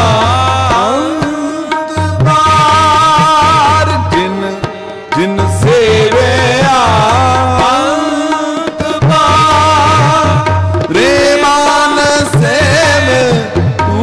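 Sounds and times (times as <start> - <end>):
sliding devotional melody: 0.0 - 14.0
tabla beat: 0.0 - 14.0.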